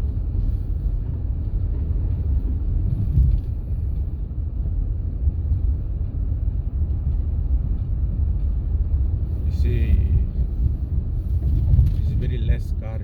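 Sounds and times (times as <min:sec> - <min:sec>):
tyre and engine rumble in car: 0:00.0 - 0:13.0.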